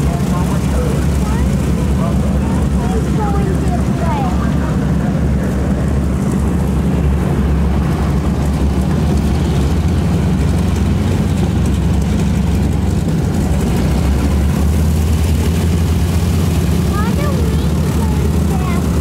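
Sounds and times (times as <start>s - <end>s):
propeller noise: 0.0s - 19.0s
radial aircraft engine droning: 0.0s - 19.0s.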